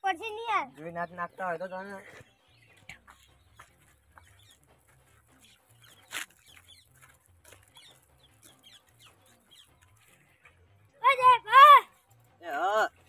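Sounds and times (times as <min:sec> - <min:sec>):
small birds calling: 0:00.0 - 0:13.0.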